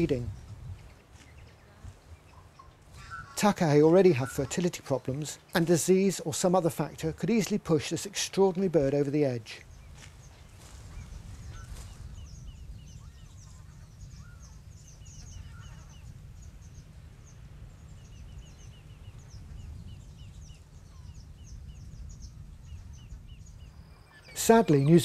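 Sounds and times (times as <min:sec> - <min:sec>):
faint low bird calls: 0:00.0 - 0:05.7, 0:09.6 - 0:25.0
low wind rumble: 0:00.0 - 0:25.0.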